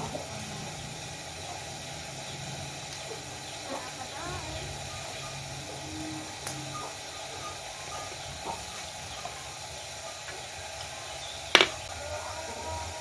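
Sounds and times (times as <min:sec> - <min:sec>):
food cooking hiss: 0:00.0 - 0:13.0.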